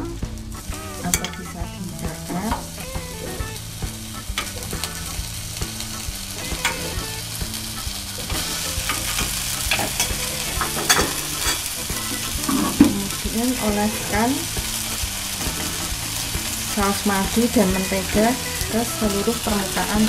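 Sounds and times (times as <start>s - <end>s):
chicken sizzling in a grill pan: 0.0s - 20.0s.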